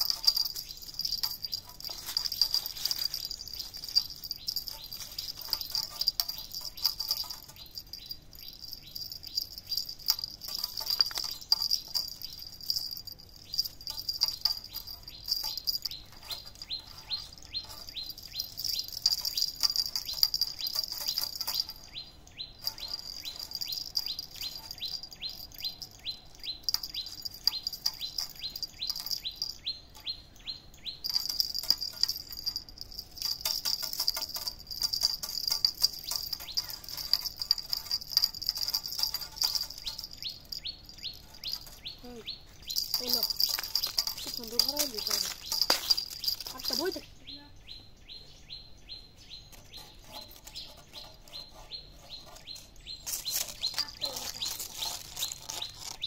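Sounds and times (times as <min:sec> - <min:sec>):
bird chirping rapidly: 0:00.0 - 0:56.0.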